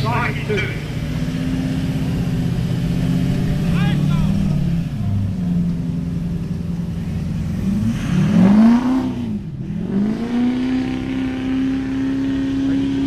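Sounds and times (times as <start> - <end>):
diesel engine under hard load: 0.0 - 13.0.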